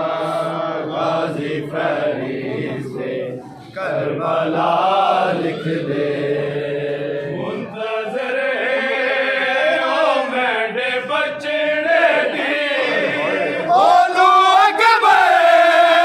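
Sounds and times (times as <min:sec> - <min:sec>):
men chanting a mourning lament: 0:00.0 - 0:16.0.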